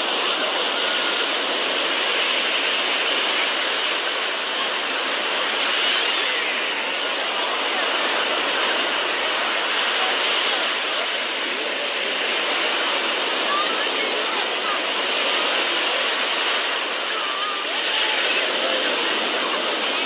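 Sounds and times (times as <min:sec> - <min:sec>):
small waves breaking on sand: 0:00.0 - 0:20.0.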